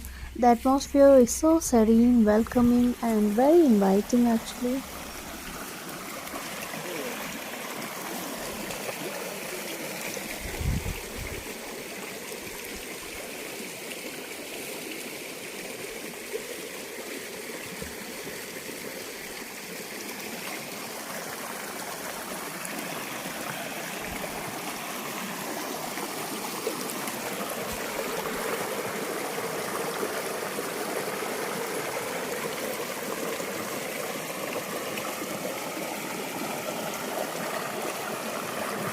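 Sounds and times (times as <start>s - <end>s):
forest stream flowing: 0.0s - 38.9s.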